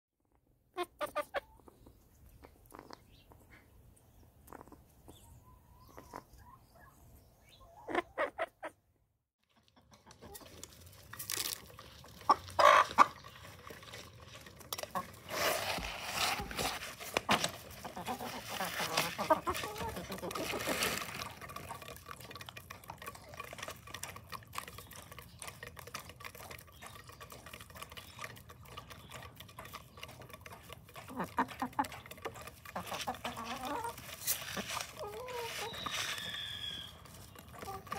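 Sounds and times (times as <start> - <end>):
hens clucking: 0.7 - 3.7, 4.4 - 6.9, 7.5 - 8.8, 9.4 - 37.9.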